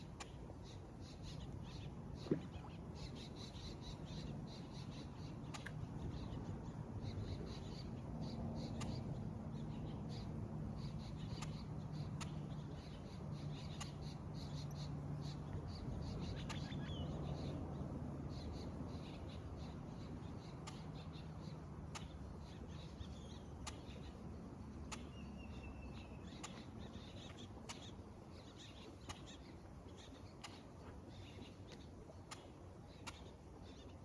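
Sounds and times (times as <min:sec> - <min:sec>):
low steady hum: 0:00.0 - 0:34.0
small birds chirping: 0:00.0 - 0:34.0.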